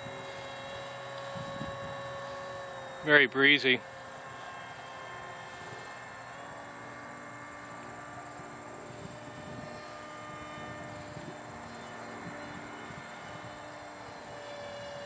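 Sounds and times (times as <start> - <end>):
model plane propeller whine: 0.0 - 15.0.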